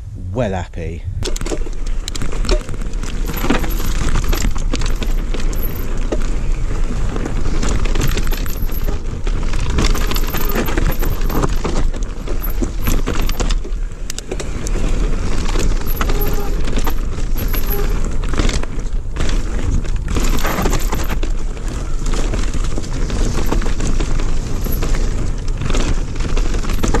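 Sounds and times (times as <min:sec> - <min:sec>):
wind rumble on microphone: 0:00.0 - 0:27.0
bike frame and chain rattling: 0:01.2 - 0:27.0
bike tyres rumbling on dirt: 0:01.2 - 0:27.0.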